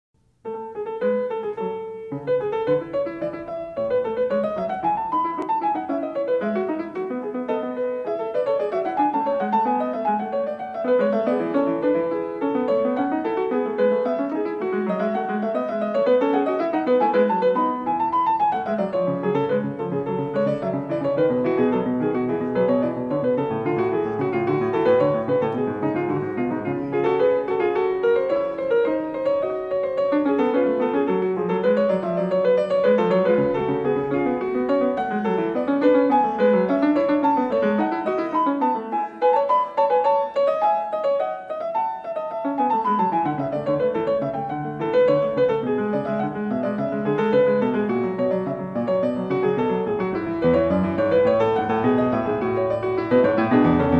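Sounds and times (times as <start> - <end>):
piano music: 0.2 - 53.9.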